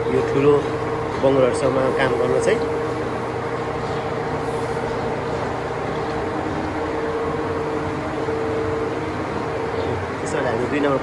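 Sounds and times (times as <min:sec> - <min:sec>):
barn machinery drone: 0:00.0 - 0:11.0.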